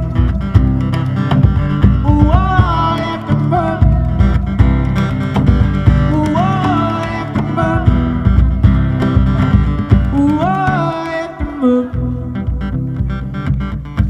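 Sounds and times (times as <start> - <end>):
bass line: 0.0 - 14.0
strummed acoustic guitar: 0.0 - 14.0.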